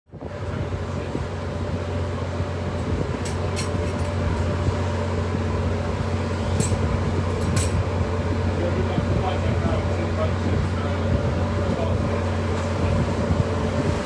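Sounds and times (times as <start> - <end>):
mechanical hum: 0.1 - 14.0.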